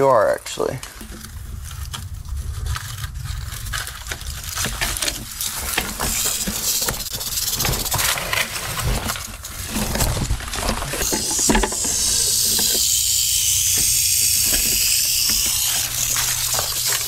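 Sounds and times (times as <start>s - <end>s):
rattlesnake rattling: 0.9s - 17.0s.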